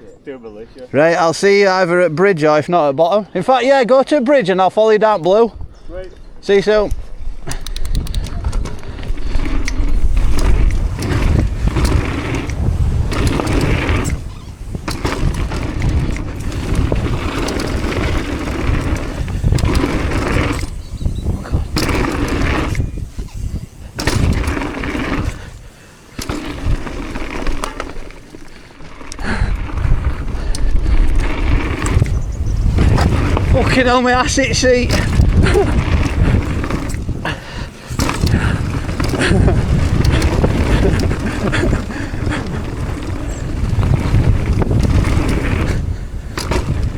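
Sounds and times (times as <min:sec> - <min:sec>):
wind on microphone: 0:05.5 - 0:28.2, 0:29.2 - 0:46.9
bike tyre roar: 0:07.3 - 0:46.9.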